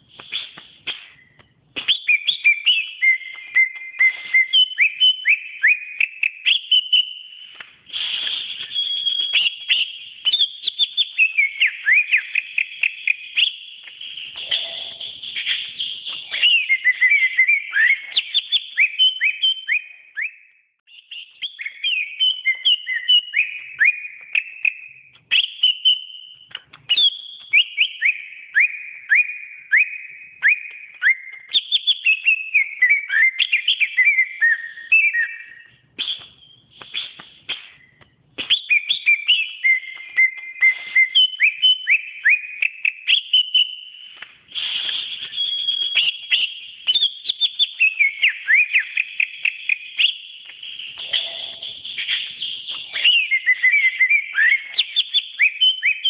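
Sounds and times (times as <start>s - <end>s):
bird singing whistles and chatter: 0.2s - 56.0s.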